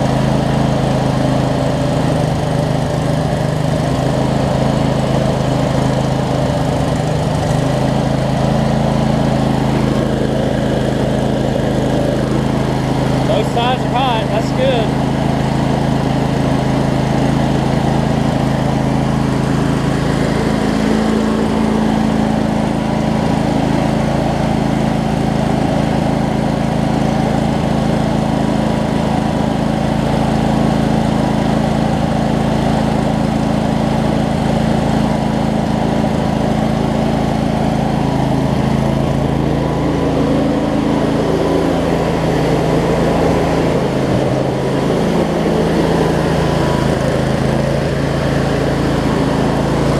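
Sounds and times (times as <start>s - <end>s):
riding mower engine running: 0.0s - 49.9s.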